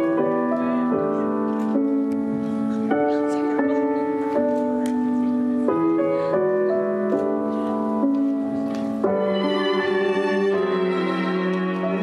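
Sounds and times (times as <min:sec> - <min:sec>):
slow piano and violin music: 0:00.0 - 0:12.0.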